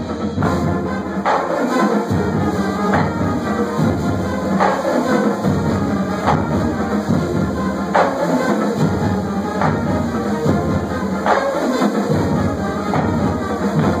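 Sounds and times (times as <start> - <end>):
accented drum hits: 0.0 - 14.0
band playing live: 0.0 - 14.0.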